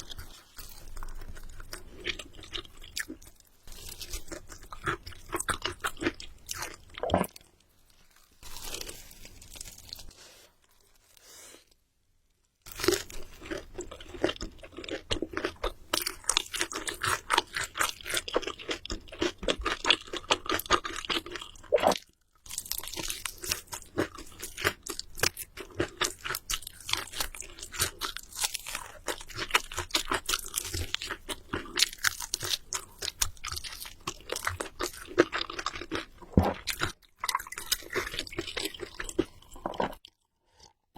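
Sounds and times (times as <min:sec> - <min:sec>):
chewing crunchy food: 0:00.0 - 0:11.0, 0:12.7 - 0:40.9.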